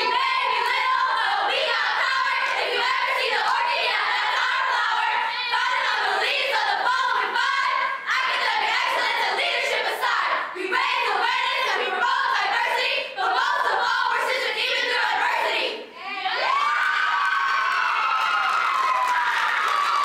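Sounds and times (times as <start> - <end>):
women singing in unison: 0.0 - 16.4.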